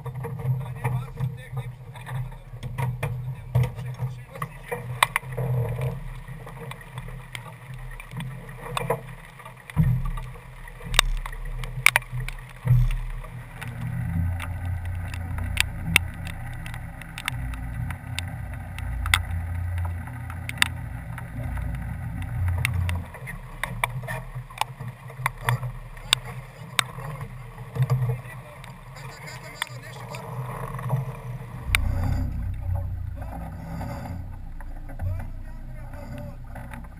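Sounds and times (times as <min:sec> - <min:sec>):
clicks and knocks from boat gear: 0:00.0 - 0:36.9
low hum: 0:00.0 - 0:36.9
rumble of water and wind: 0:00.0 - 0:36.9.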